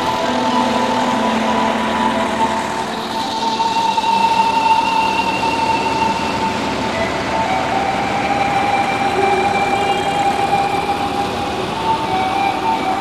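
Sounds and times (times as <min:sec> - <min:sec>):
steady whine: 0:00.0 - 0:13.0
tractor engines passing: 0:00.0 - 0:13.0.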